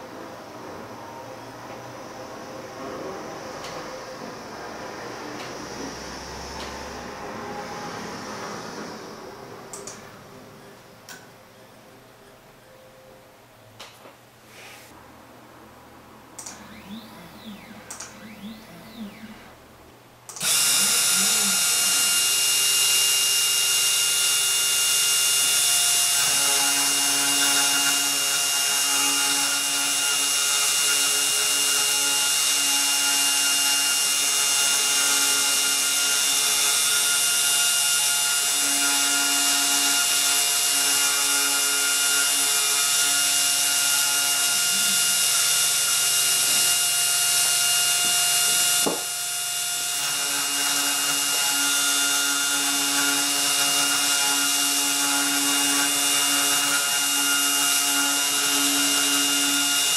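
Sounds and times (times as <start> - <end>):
stepper motor tone: 0.0 - 10.9, 16.4 - 19.7, 20.3 - 59.9
spindle motor high whine: 0.0 - 12.8, 16.4 - 59.9.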